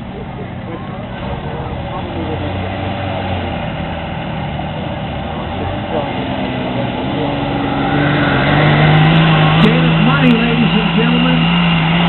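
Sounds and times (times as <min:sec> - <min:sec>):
diesel pickup engine running: 0:00.0 - 0:12.0.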